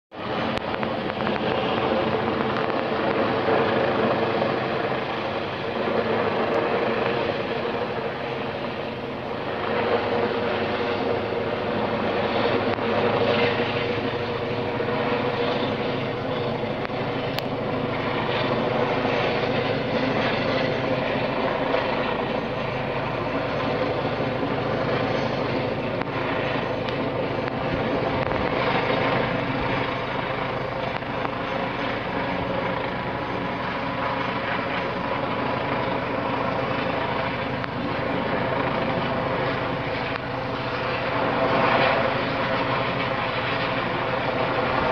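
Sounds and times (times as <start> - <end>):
helicopter rotor drone: 0.1 - 44.9.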